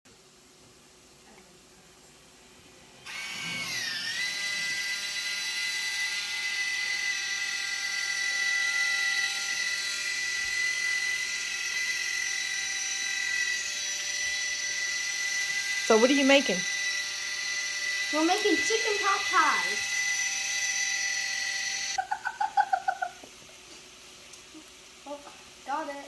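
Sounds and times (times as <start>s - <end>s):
small electric motor whining: 2.3s - 26.0s.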